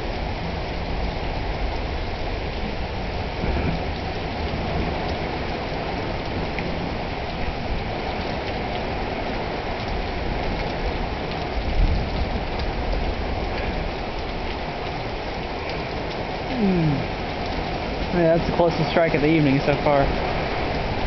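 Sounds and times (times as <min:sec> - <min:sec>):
heavy rain pouring: 0:00.0 - 0:21.0
low thunder rumble: 0:00.0 - 0:21.0.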